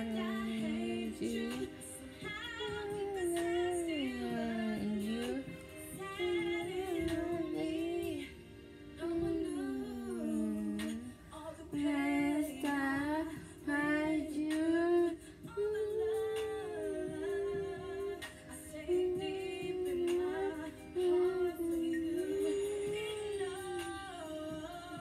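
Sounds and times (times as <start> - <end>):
woman singing with vibrato: 0.0 - 25.0.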